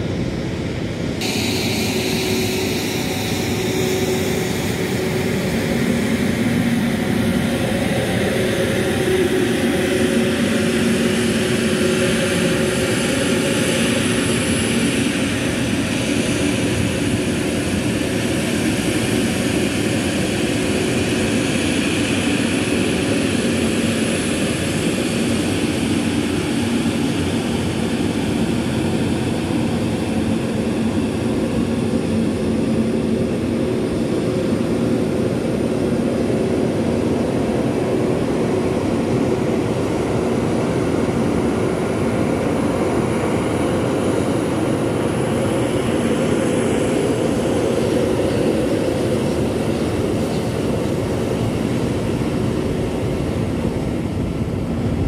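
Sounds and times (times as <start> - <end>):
jet engines running: 0.0 - 55.0
faint high whine: 0.6 - 55.0.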